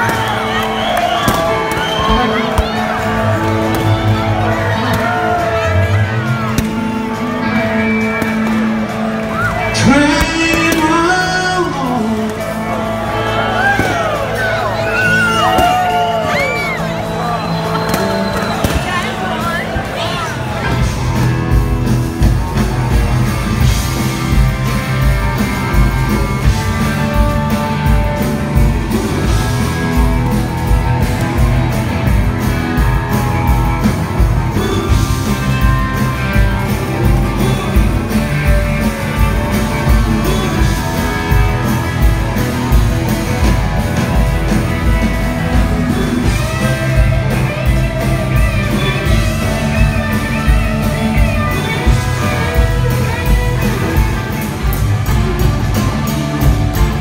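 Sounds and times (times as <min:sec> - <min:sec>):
blues-rock band playing live: 0:00.0 - 0:57.0.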